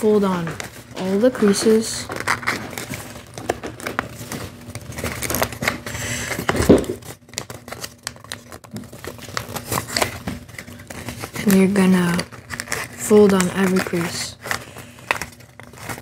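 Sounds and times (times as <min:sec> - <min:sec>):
paper crinkling as folded: 0:00.0 - 0:16.0.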